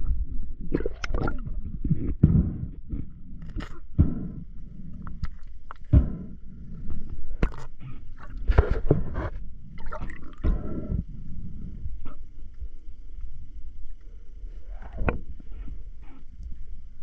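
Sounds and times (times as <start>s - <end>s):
muffled water noise: 0.0s - 17.0s.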